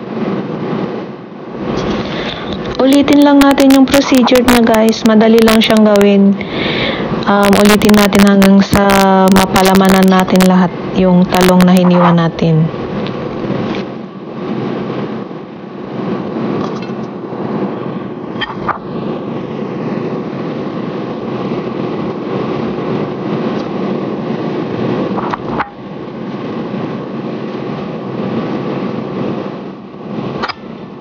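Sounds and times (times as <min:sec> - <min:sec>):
kitchen fan whirring: 0:00.0 - 0:31.0.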